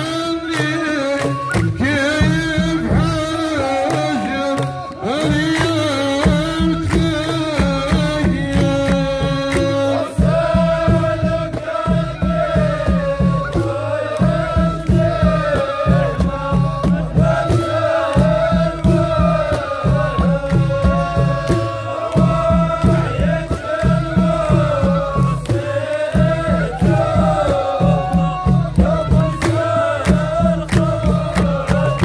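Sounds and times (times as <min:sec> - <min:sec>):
hand clapping: 0:00.0 - 0:10.4, 0:12.9 - 0:15.0, 0:16.8 - 0:27.8, 0:28.4 - 0:32.0
even drumbeat: 0:00.0 - 0:32.0
men singing chanted melody: 0:00.0 - 0:32.0.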